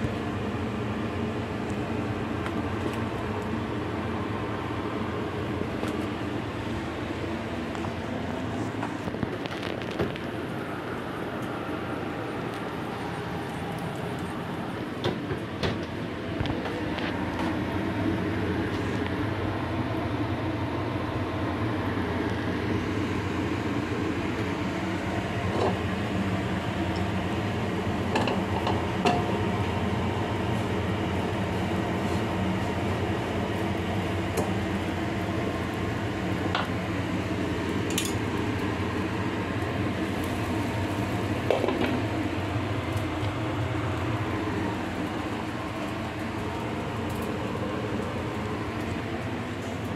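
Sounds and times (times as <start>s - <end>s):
mechanical drone with hum: 0.0s - 49.9s.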